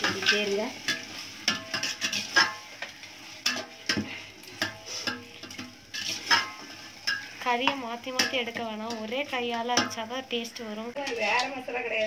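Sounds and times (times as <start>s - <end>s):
metal clanks against pot: 0.0s - 10.0s
low sizzle: 0.0s - 12.0s.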